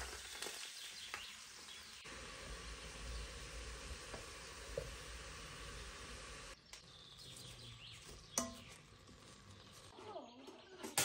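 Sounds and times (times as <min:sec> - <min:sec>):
carrots sizzling in a pot: 0:00.0 - 0:10.0.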